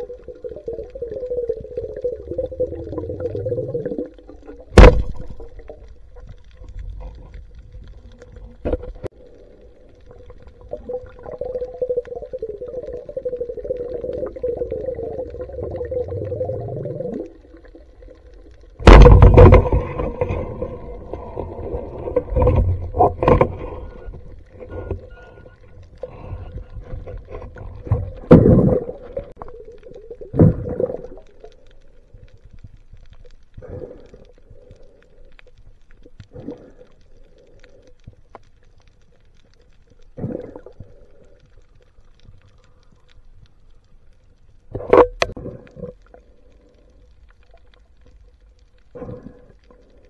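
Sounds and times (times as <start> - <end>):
underwater water swishing: 0.0 - 50.0.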